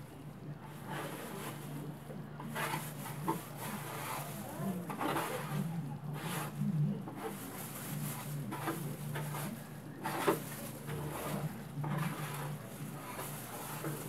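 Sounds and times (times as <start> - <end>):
scraping and rubbing grill parts: 0.6 - 14.0.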